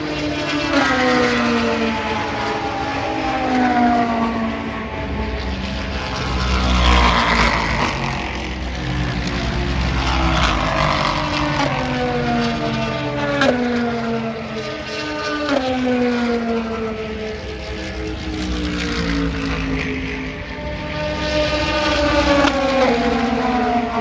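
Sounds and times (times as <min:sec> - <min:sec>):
race cars passing at speed: 0:00.0 - 0:24.0.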